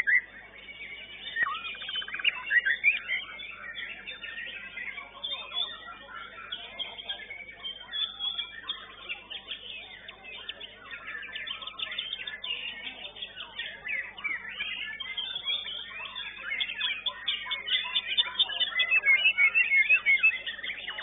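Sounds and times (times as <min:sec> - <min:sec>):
songbird singing whistles and trills: 0:00.0 - 0:21.0.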